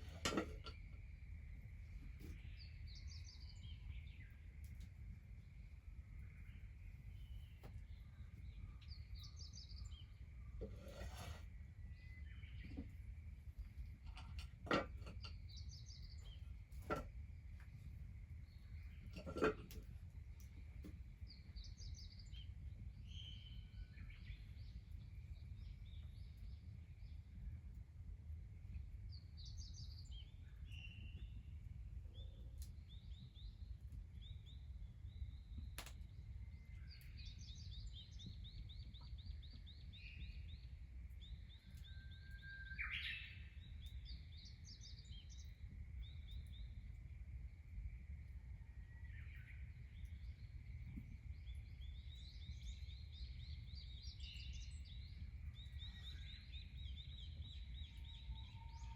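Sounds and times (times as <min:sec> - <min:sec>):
small birds chirping: 0:00.0 - 0:27.5, 0:32.2 - 0:58.9.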